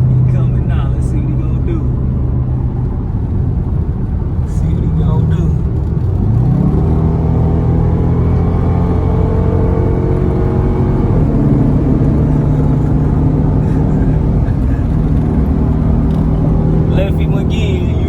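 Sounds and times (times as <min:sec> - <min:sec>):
car engine pulling hard: 0:00.0 - 0:18.0.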